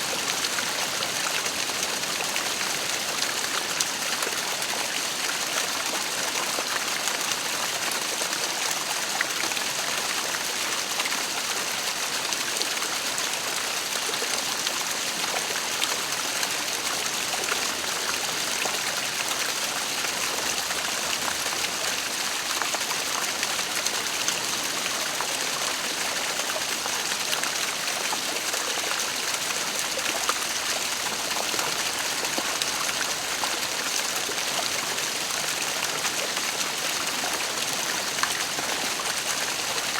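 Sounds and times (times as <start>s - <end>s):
water splashes and trickles: 0.0s - 39.9s.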